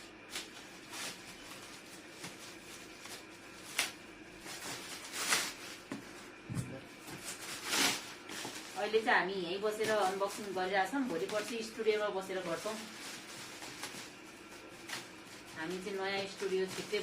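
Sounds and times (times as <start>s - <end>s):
packaging rustling and scraping: 0.2s - 17.0s.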